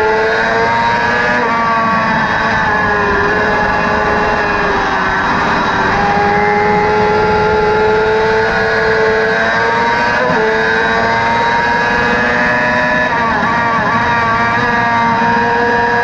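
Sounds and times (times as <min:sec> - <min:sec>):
kart engine at high revs: 0:00.0 - 0:16.0
road noise: 0:00.0 - 0:16.0
rushing wind: 0:00.0 - 0:16.0.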